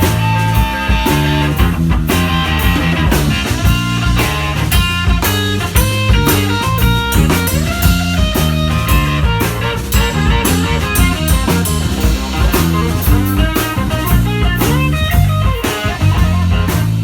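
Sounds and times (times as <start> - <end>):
live blues-rock band: 0.0 - 17.0.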